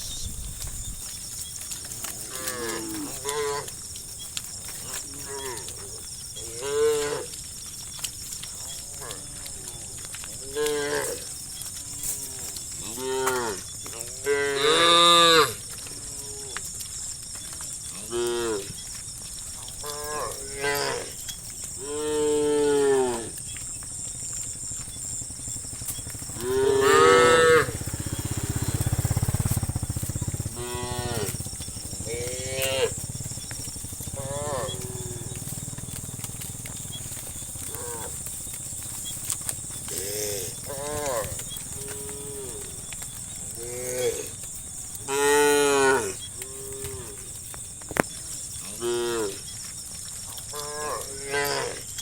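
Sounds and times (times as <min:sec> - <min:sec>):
high insect-like hiss: 0:00.0 - 0:52.0
cows mooing: 0:01.0 - 0:16.6, 0:17.8 - 0:19.0, 0:19.6 - 0:49.6, 0:50.5 - 0:52.0.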